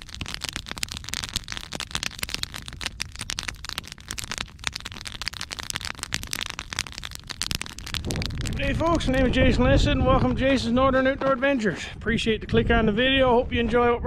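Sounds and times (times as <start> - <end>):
campfire crackling: 0.0 - 12.9.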